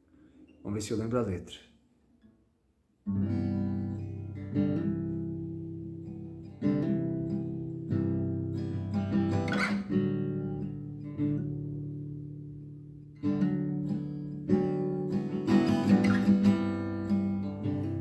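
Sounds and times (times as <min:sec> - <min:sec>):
acoustic guitar strumming chords: 0:03.1 - 0:18.0.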